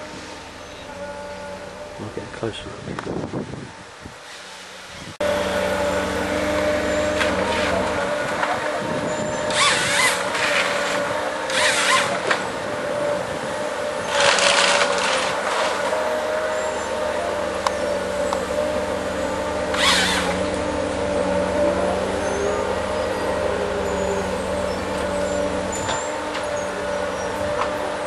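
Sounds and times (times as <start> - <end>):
harvester engine whine: 0.0 - 28.0.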